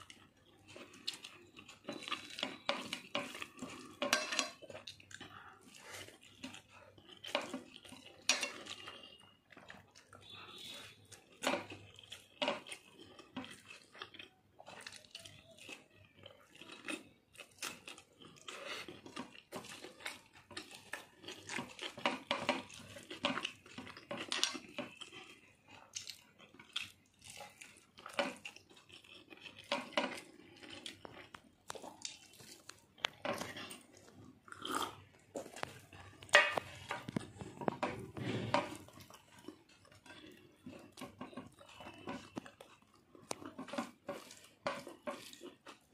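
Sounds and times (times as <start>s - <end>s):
person chewing: 0.0s - 45.9s.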